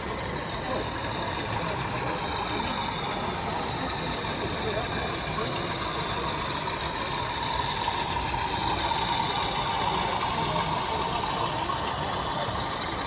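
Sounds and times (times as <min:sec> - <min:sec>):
faint steady whine: 0:00.0 - 0:13.0
model train engine drone: 0:00.0 - 0:13.0.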